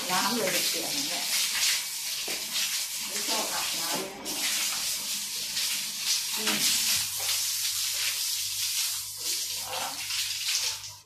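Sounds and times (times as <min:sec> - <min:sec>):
hose water splashing on floor: 0:00.0 - 0:11.0.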